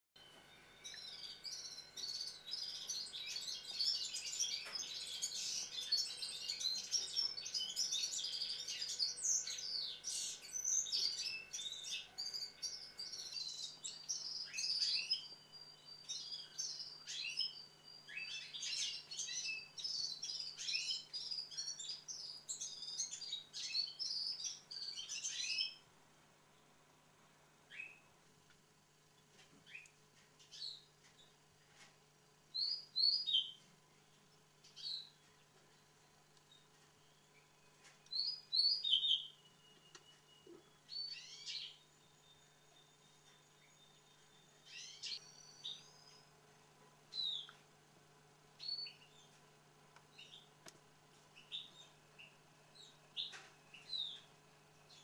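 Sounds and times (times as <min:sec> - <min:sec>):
faint low hum: 0:00.2 - 0:55.0
songbirds chirping: 0:00.2 - 0:55.0.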